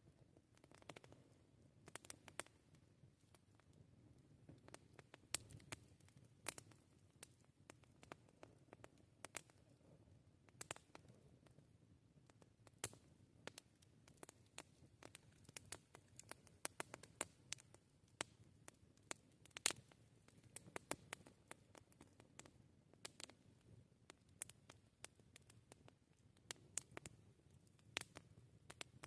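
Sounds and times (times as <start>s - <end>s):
low rumble of burning: 0.0s - 29.0s
wood fire crackling: 0.1s - 29.0s.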